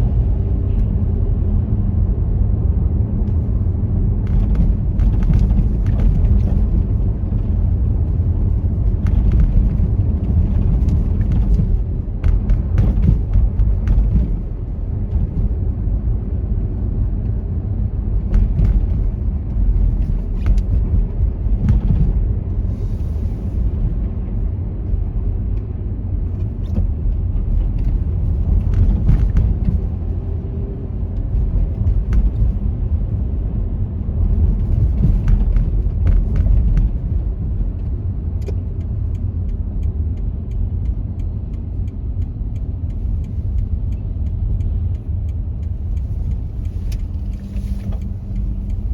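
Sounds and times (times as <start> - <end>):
car road rumble: 0.0 - 48.9.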